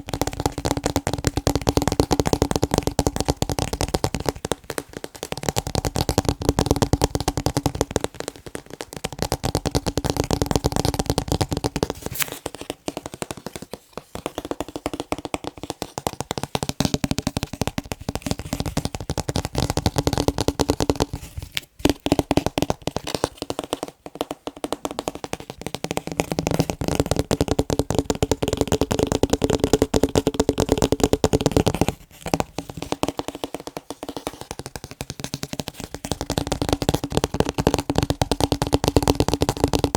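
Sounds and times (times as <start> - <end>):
fast tapping on picture frames: 0.0 - 39.9.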